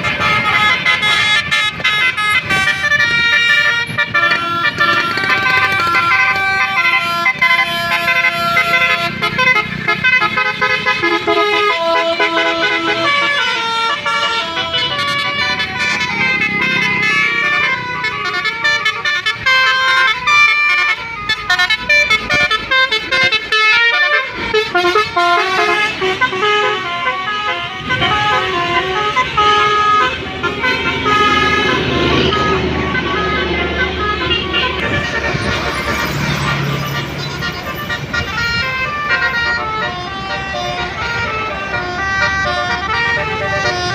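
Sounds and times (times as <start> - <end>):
bus engines running: 0.0 - 43.9
melodic bus horns: 0.0 - 43.9.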